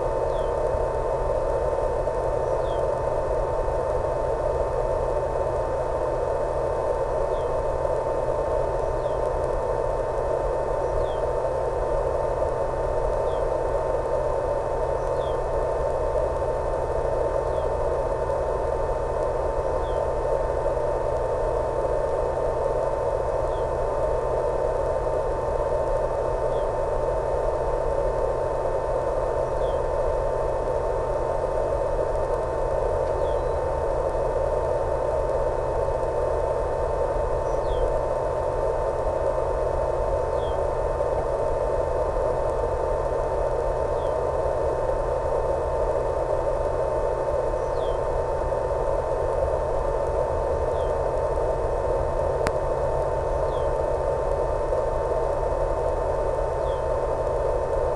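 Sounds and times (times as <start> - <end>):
constant mid-pitched tone: 0.0 - 57.9
low hum: 0.0 - 57.9
radio static hiss: 0.0 - 57.9.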